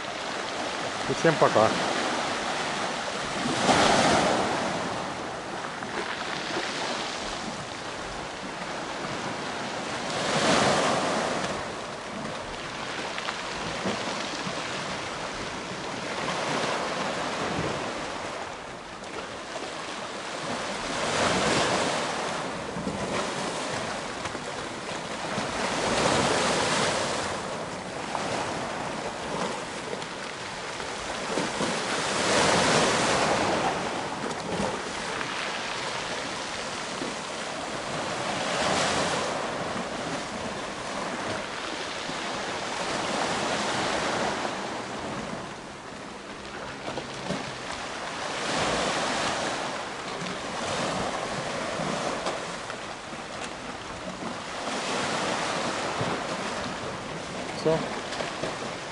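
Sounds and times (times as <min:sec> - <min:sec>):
sea waves breaking in a pebbly cove: 0:00.0 - 0:58.9.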